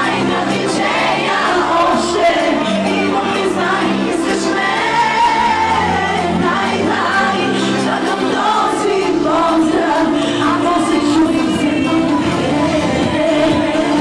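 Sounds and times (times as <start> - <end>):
backing music: 0.0 - 14.0
woman singing: 0.0 - 14.0.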